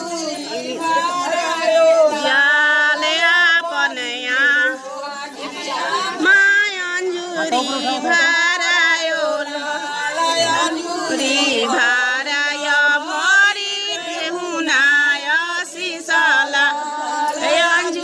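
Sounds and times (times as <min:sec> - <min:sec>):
women singing folk song: 0:00.0 - 0:18.0.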